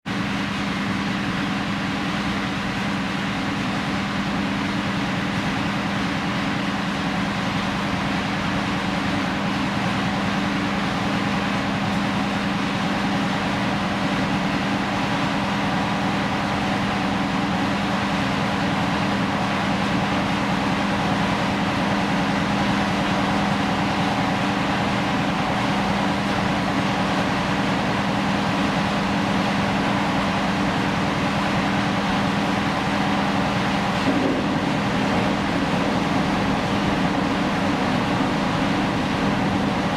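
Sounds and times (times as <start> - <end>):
ship engine humming: 0.1 - 39.9.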